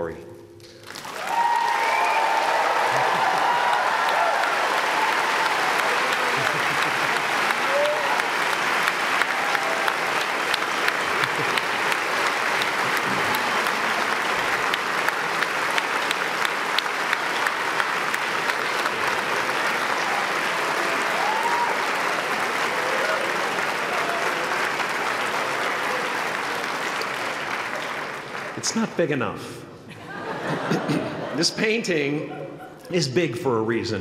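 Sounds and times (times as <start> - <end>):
audience applauding: 0.8 - 29.0.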